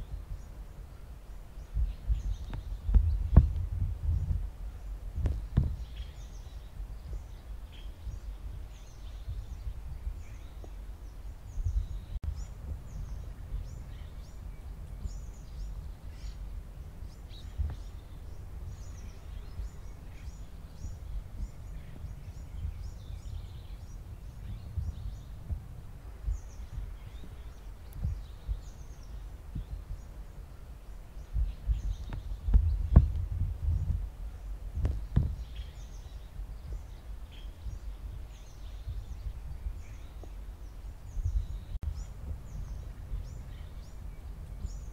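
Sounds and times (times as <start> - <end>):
low outdoor rumble: 0.0 - 44.9
small birds chirping: 0.0 - 44.9.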